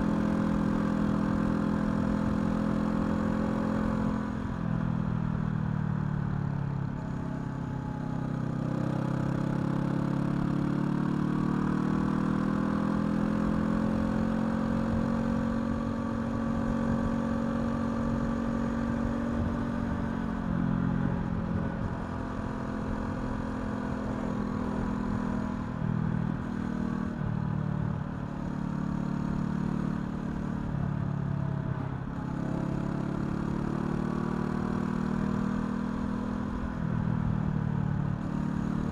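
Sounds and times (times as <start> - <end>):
motorcycle engine on the road: 0.0 - 38.9.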